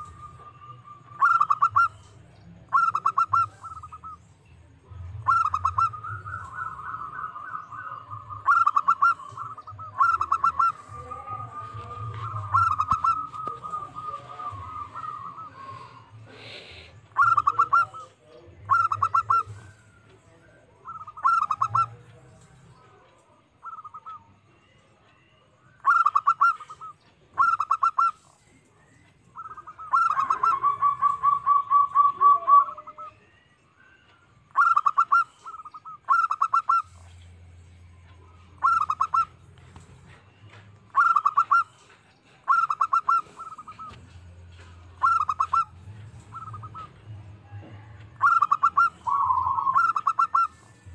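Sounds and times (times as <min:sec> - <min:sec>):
dove cooing: 0:00.0 - 0:04.2, 0:05.1 - 0:22.0, 0:25.8 - 0:28.3, 0:29.4 - 0:33.3, 0:34.5 - 0:37.1, 0:38.6 - 0:50.9.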